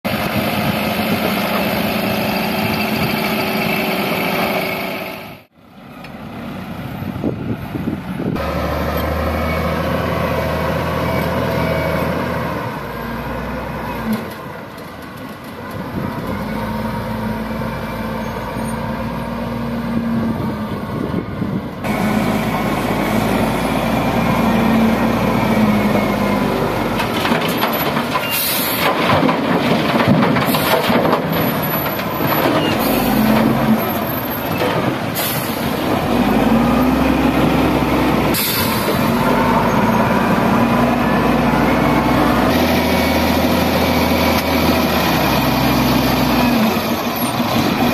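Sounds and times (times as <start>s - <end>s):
heavy diesel engines running: 0.1s - 47.9s.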